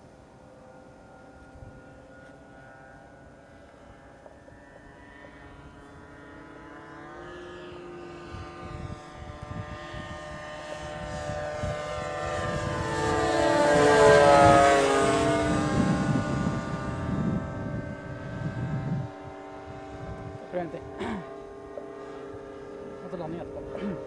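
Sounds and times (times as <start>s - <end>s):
model plane engines passing: 0.0s - 24.0s.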